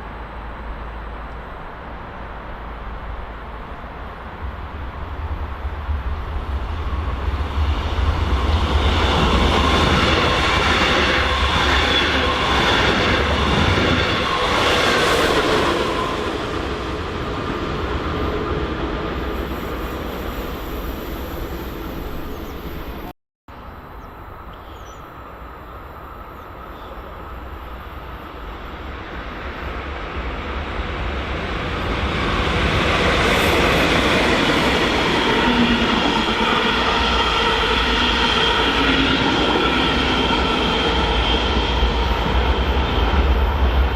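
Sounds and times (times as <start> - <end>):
train passing: 0.0 - 43.9.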